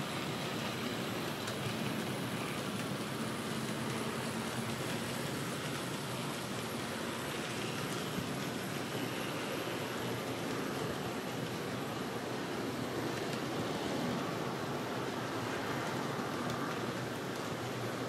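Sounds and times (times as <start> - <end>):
model train wheels rumbling on rails: 0.0 - 18.0.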